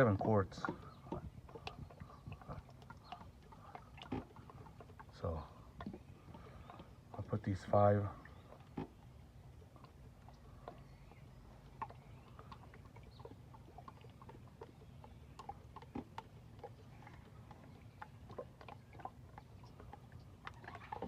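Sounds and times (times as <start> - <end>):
oil glugging from jug: 0.0 - 21.0.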